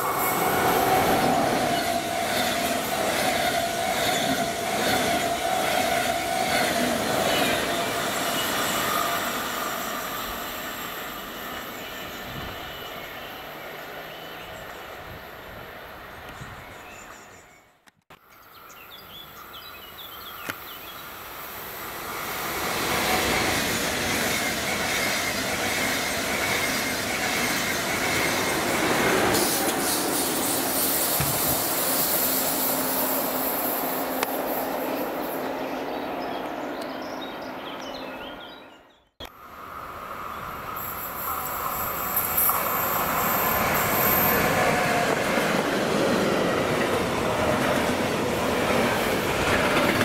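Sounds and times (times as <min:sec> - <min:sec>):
electric train passing: 0:00.0 - 0:16.8, 0:19.4 - 0:50.0.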